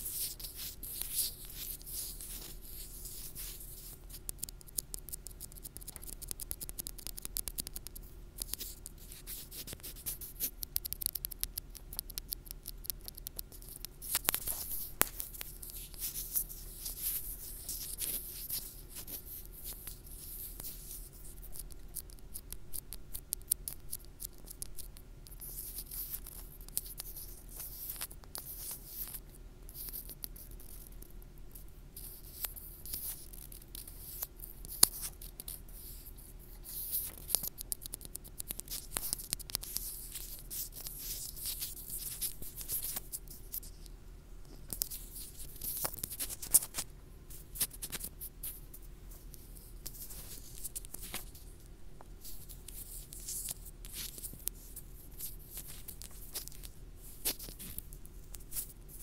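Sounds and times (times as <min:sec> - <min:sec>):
fingertips scratching earphone microphone: 0:00.0 - 0:31.0, 0:32.0 - 0:43.7, 0:44.5 - 0:59.0
faint steady hum: 0:00.0 - 0:59.0.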